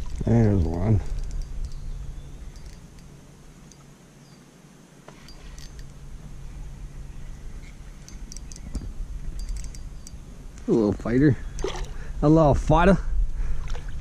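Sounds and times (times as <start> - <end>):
low steady rumble: 0.0 - 4.2, 5.2 - 14.0.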